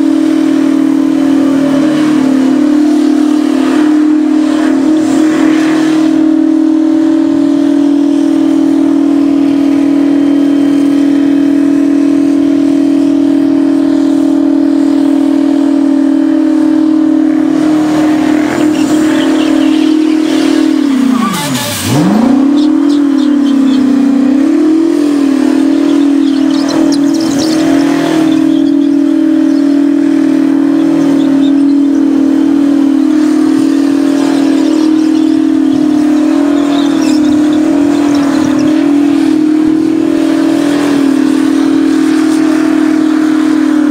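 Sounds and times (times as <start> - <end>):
truck engine revving high: 0.0 - 43.9.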